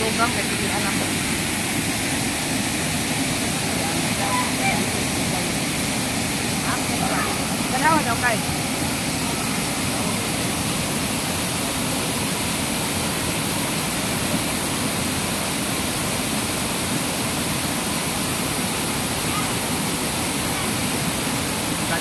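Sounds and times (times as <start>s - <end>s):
waterfall rushing over boulders: 0.0s - 22.0s.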